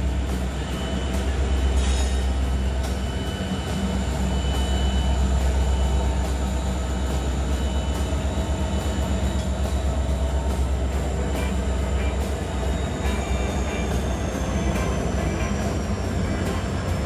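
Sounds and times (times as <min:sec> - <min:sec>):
diesel locomotive engine drone: 0:00.0 - 0:17.0
wheels clicking on rails: 0:00.0 - 0:17.0.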